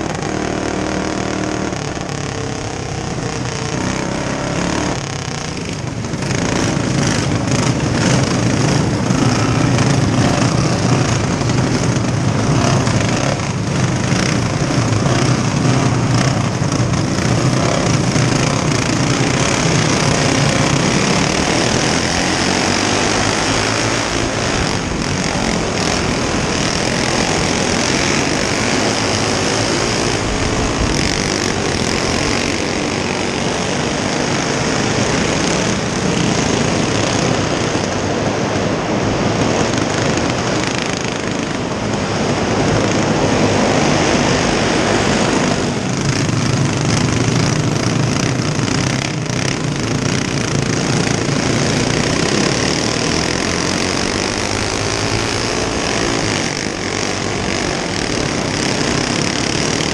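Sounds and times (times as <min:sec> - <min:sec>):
go-kart engines droning: 0:00.0 - 0:59.9.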